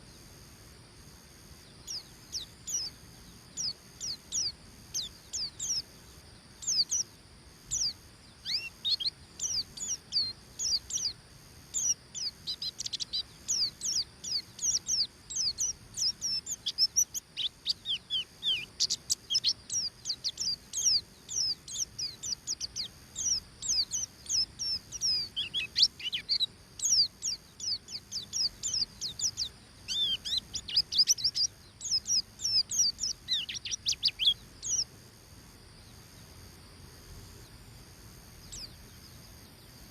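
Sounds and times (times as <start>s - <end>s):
bird singing high chirps: 1.8s - 5.9s, 6.6s - 7.1s, 7.7s - 34.9s, 38.4s - 39.9s.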